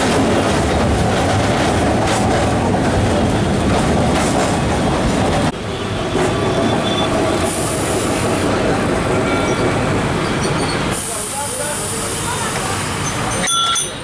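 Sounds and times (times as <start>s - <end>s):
tram rumbling and rattling on rails: 0.0s - 14.0s.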